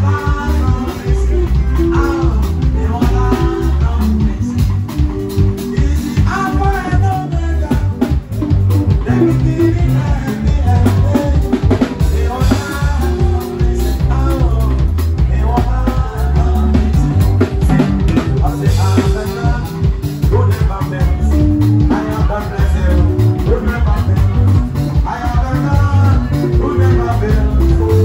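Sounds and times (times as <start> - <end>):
bass guitar: 0.0 - 28.0
drum kit: 0.0 - 28.0
electric guitar: 0.0 - 28.0
person singing: 0.0 - 28.0.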